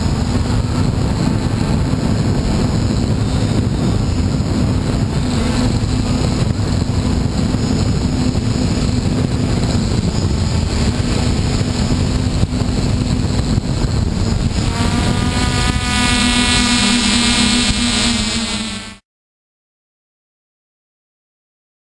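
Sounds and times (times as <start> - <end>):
drone propellers humming: 0.0 - 19.0
high-pitched whine: 0.0 - 19.0
wind rushing over microphone: 0.0 - 19.0.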